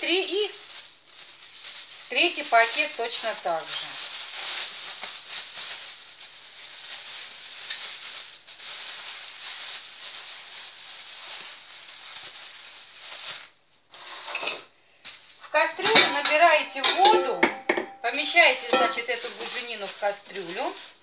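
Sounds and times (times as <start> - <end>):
plastic bag crinkling and rustling: 0.0 - 14.2, 15.0 - 21.0.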